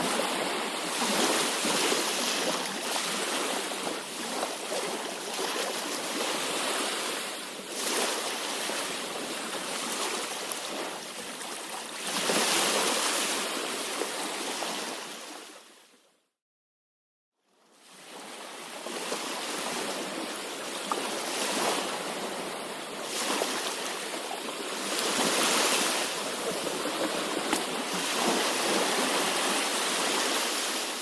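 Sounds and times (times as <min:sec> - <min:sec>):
sea waves washing on shore: 0:00.0 - 0:15.6, 0:17.9 - 0:31.0.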